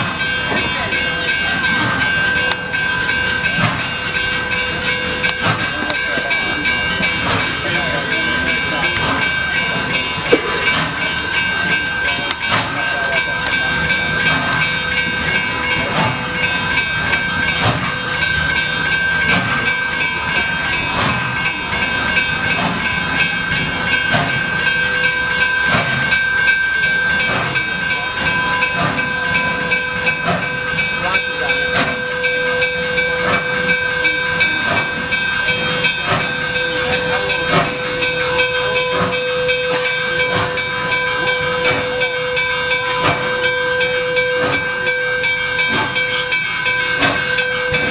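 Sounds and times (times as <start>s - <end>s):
steam locomotive hissing: 0.0s - 47.9s.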